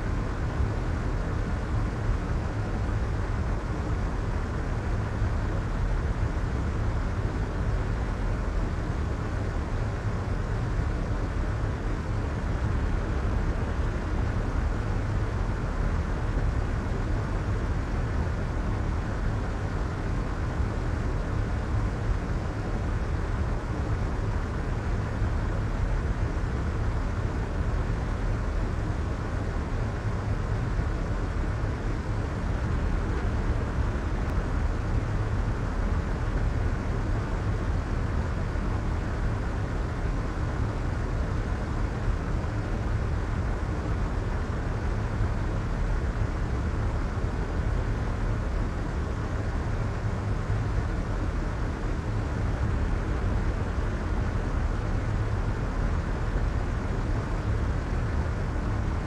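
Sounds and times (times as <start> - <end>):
muffled white noise: 0.0 - 59.0.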